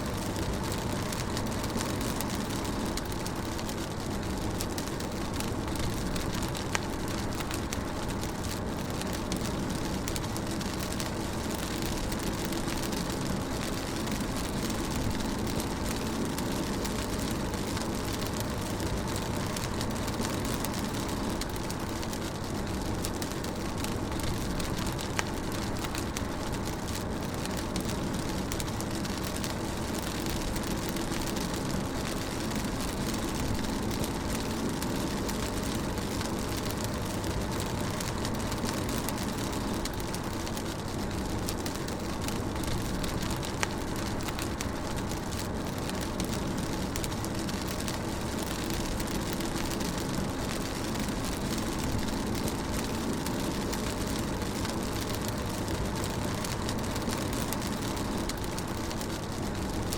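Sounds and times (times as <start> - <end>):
rain hitting car roof: 0.0 - 59.9.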